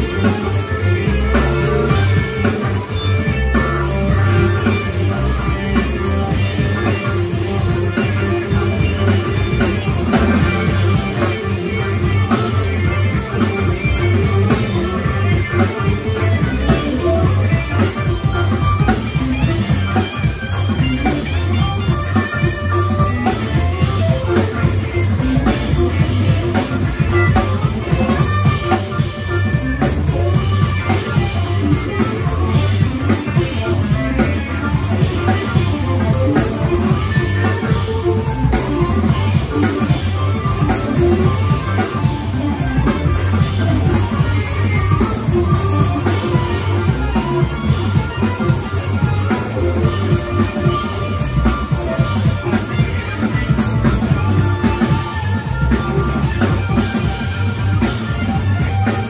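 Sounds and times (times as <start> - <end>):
drum kit: 0.0 - 59.0
electric guitar: 0.0 - 59.0
organ: 0.0 - 59.0.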